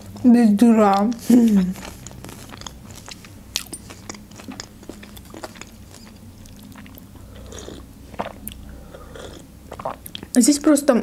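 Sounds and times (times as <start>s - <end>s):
person chewing: 0.0s - 10.4s.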